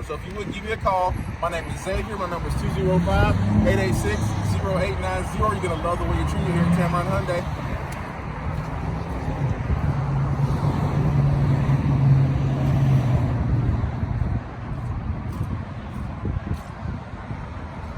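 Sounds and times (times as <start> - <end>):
road noise: 0.0 - 17.9
vehicle engine humming: 0.0 - 17.9.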